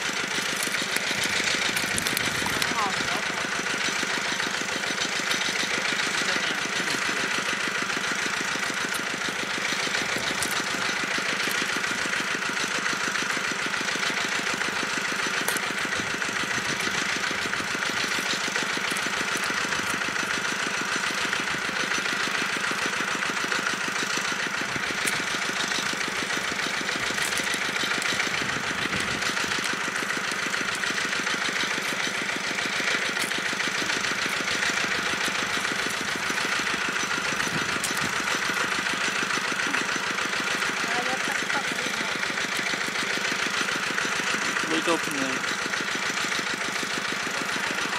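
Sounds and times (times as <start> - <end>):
water pump engine chugging: 0.0 - 47.9.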